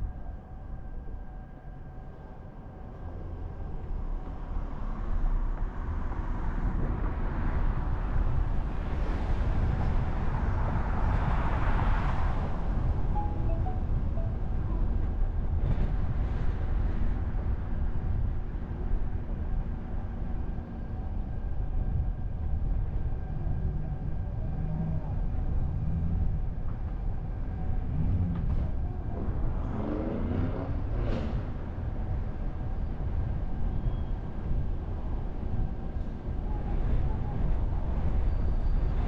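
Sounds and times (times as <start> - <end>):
passing vehicle whine: 0.0 - 39.0
traffic rumble of tyres and engines: 0.0 - 39.0.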